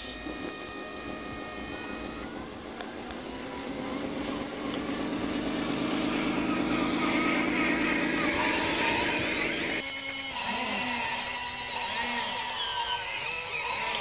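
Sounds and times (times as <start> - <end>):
low steady drone: 0.0 - 14.0
model truck motor and gear whine: 0.0 - 14.0.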